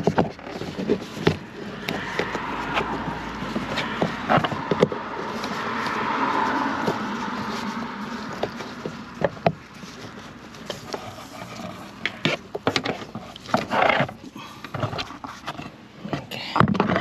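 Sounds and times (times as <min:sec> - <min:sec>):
rustling scrape: 0:00.0 - 0:17.0.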